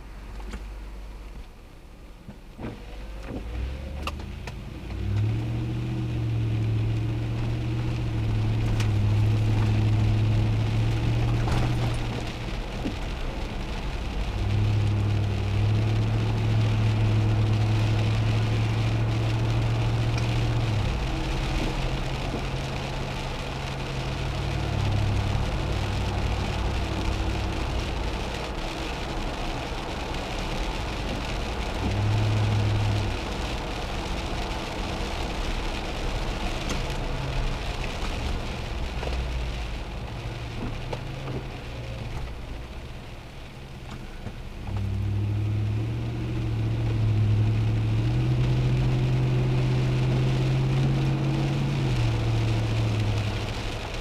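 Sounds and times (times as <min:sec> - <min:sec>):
tyres hissing on wet pavement: 0:02.8 - 0:54.0.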